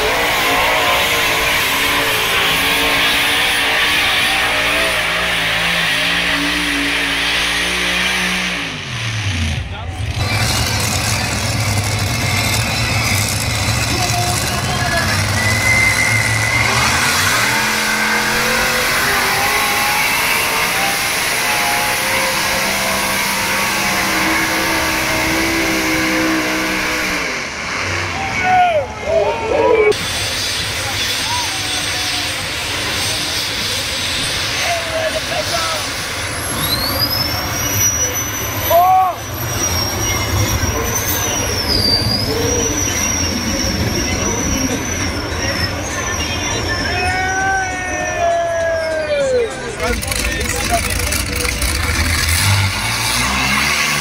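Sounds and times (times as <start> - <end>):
tractor engine at full throttle: 0.0 - 54.0.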